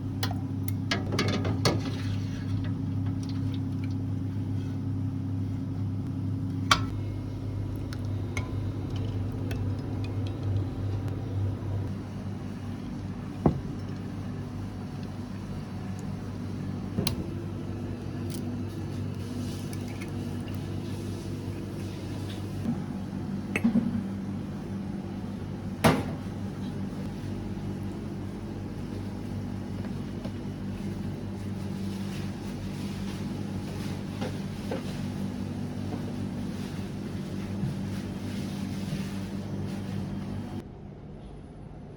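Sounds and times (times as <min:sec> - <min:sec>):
kitchen machinery humming: 0:00.0 - 0:40.6.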